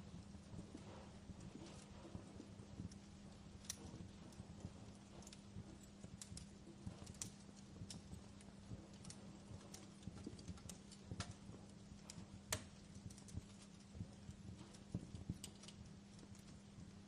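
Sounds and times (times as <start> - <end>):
faint hum: 0.0 - 17.0
wood fire crackling: 0.0 - 17.0.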